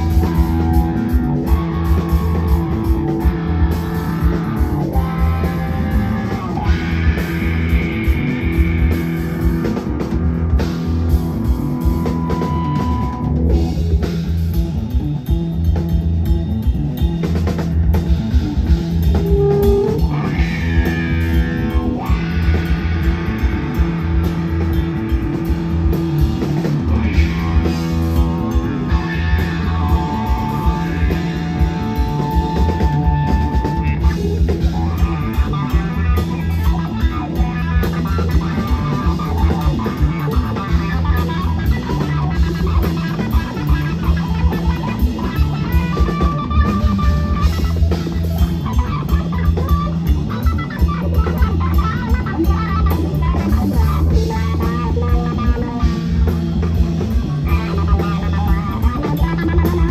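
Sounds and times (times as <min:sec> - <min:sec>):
drum kit beat: 0:00.0 - 0:59.9
electric guitars: 0:00.0 - 0:59.9
low repeating riff: 0:00.0 - 0:59.9.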